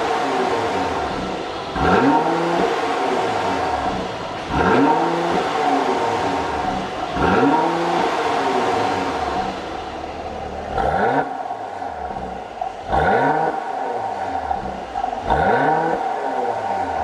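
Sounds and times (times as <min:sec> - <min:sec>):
car engine idling: 0:00.0 - 0:17.0
car engine revving: 0:00.0 - 0:17.0.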